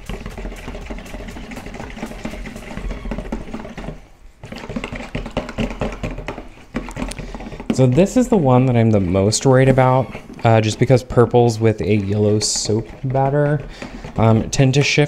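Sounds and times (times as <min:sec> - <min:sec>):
wire whisk scraping bowl: 0:00.0 - 0:15.0.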